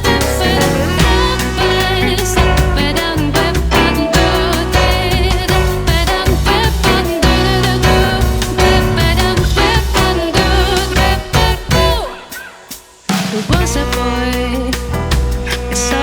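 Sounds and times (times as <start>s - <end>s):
drum hit: 0.0s - 14.2s
jazz band playing: 0.0s - 16.0s.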